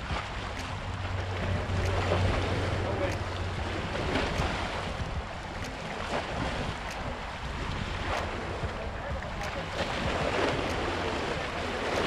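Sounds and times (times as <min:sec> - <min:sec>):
waves lapping on rocks: 0:00.0 - 0:12.0
wind on microphone: 0:00.0 - 0:12.0.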